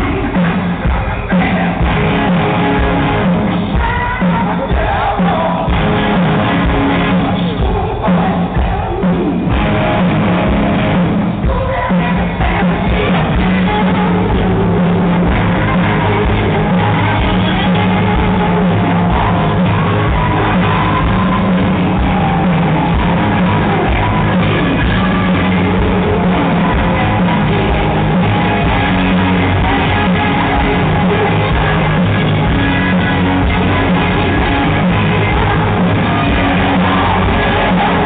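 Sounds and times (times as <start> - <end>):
distorted electric guitars: 0.0 - 38.0
drums: 0.0 - 38.0
person singing: 0.0 - 38.0.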